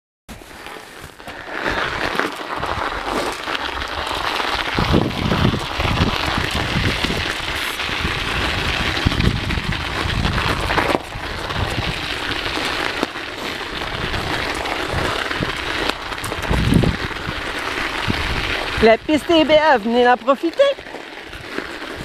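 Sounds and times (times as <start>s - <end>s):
bike tyres crackling on snow: 0.3s - 22.0s.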